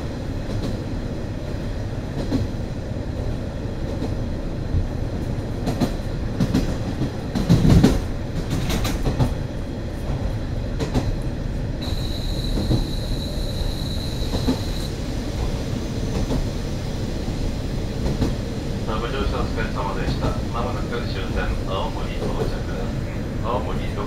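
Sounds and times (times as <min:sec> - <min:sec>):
railcar low rumble: 0:00.0 - 0:24.0.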